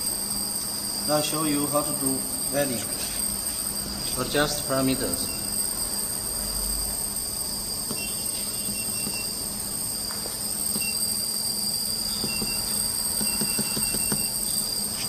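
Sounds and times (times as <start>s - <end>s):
welding machine whine and hum: 0.0s - 15.0s.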